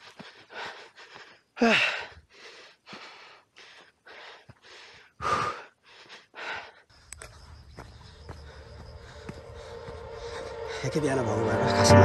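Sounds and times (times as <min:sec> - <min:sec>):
person panting: 0:00.0 - 0:10.9.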